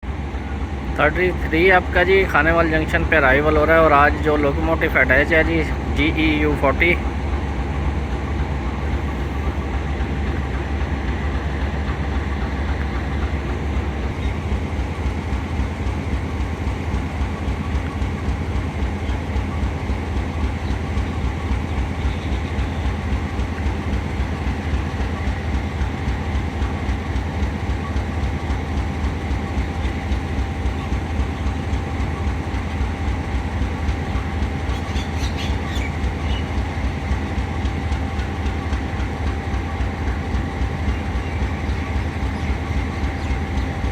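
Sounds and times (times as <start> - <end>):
deep pulsing locomotive engine rumble: 0.0 - 43.9
train wheels clattering on rails: 0.0 - 43.9.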